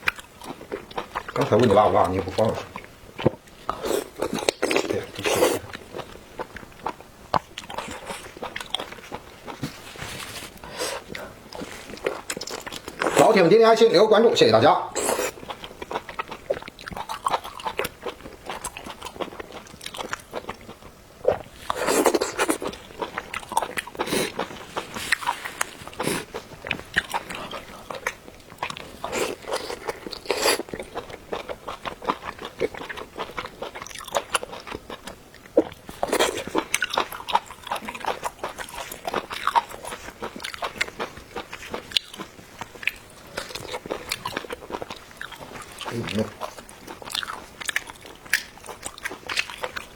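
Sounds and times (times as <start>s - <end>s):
people chewing food: 0.0s - 49.9s.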